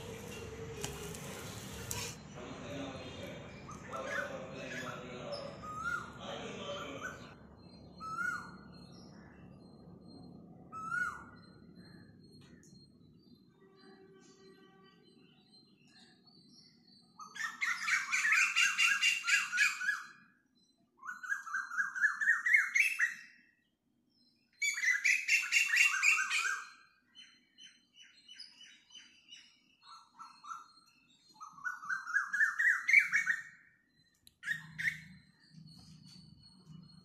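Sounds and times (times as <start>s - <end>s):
bird singing rapid trills: 2.2s - 23.6s, 24.2s - 37.0s.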